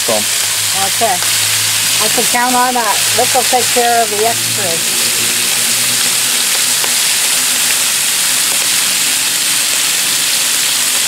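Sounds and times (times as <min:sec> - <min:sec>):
bacon sizzling on a griddle: 0:00.0 - 0:11.0.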